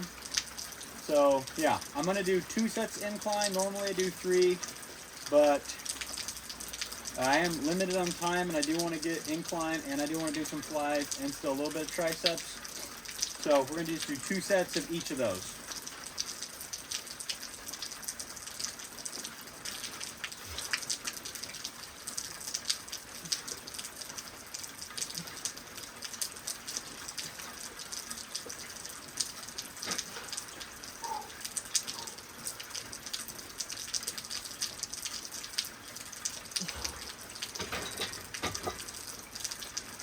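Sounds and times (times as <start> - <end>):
raindrops ticking close by: 0.0 - 40.0
steady rain falling: 0.0 - 40.0.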